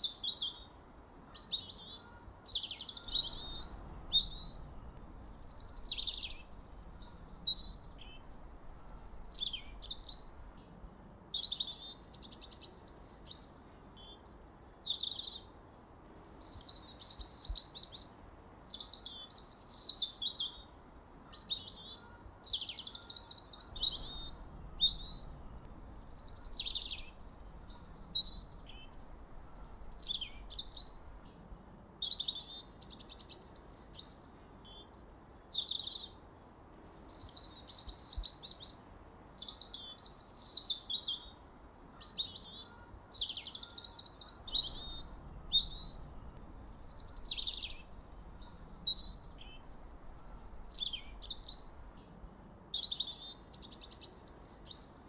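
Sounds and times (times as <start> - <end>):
birds singing: 0.0 - 15.5, 16.1 - 55.0.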